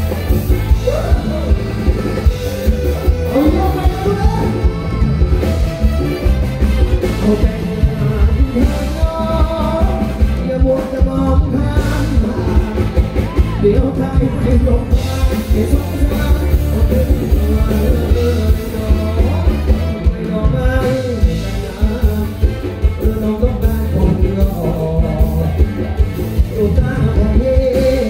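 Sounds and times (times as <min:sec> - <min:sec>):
drums keeping a steady beat: 0:00.0 - 0:28.0
electric guitars: 0:00.0 - 0:28.0
keyboard: 0:00.0 - 0:28.0
man singing: 0:00.0 - 0:28.0.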